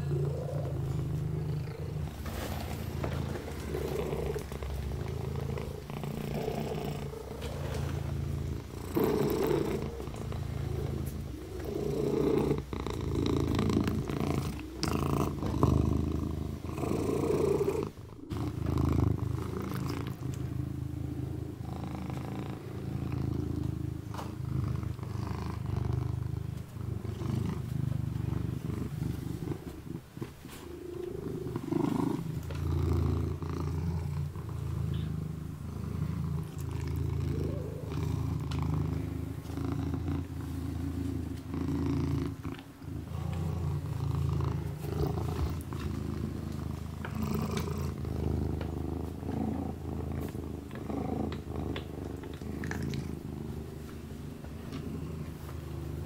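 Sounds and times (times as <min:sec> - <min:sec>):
kitten purring: 0:00.0 - 0:56.0.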